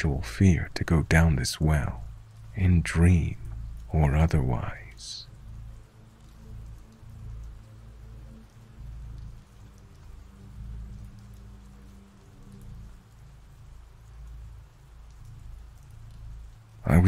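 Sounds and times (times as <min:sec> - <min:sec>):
low pulsing hum: 0:00.0 - 0:17.0
raindrop ticks: 0:00.0 - 0:17.0
steady rain: 0:00.0 - 0:17.0.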